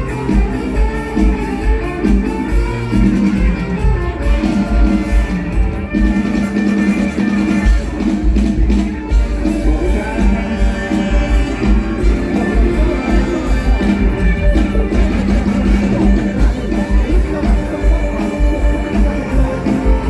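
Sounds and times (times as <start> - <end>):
heavy bass beat: 0.0 - 20.0
live band music: 0.0 - 20.0.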